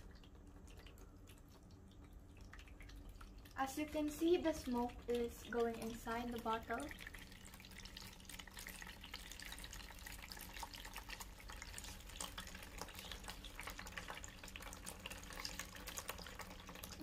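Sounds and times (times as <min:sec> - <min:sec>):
water dripping into a basin: 0:00.0 - 0:17.0.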